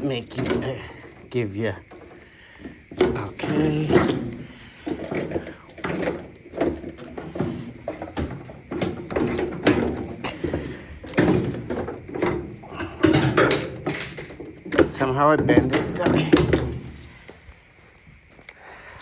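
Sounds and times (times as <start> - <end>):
metal knocks and clunks: 0.0 - 17.3.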